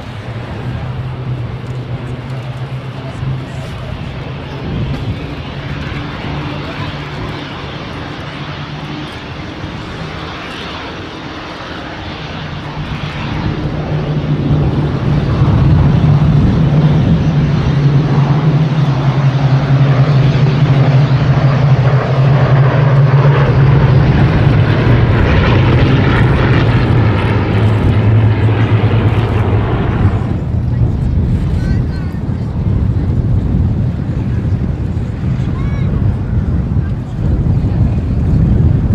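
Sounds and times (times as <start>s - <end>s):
aircraft piston engines droning: 0.0s - 38.9s.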